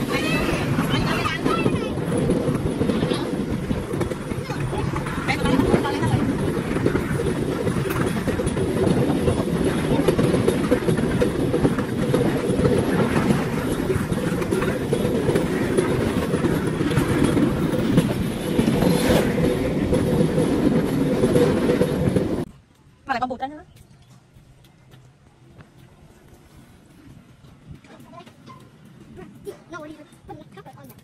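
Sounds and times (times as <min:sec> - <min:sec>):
train rumbling on track: 0:00.0 - 0:31.0
wheels clattering on rails: 0:00.0 - 0:31.0.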